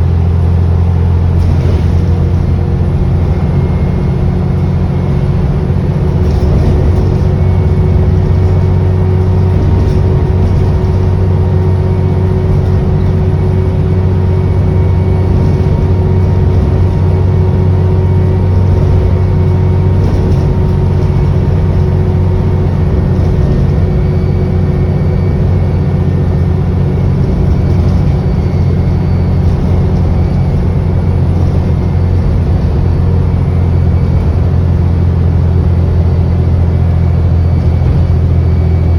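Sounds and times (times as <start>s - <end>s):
bus engine drone: 0.0s - 38.9s
turbocharger whine: 0.0s - 38.9s.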